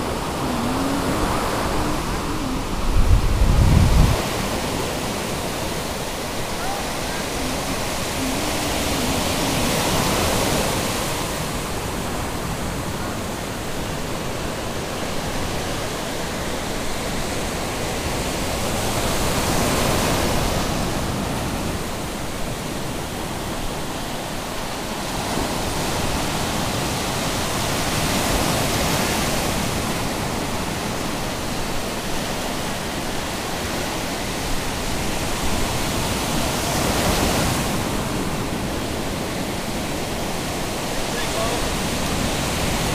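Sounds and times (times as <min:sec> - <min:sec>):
surf breaking on sandy beach: 0:00.0 - 0:42.9.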